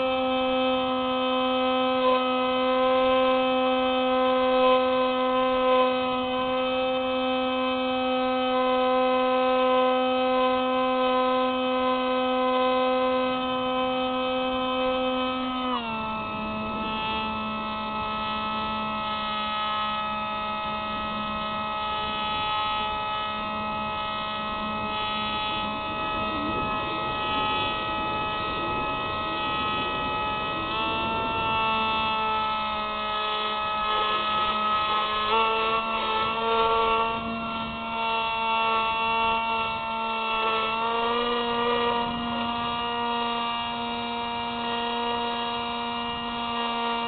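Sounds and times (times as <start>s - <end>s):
electric motor and propeller whining: 0.0s - 47.0s.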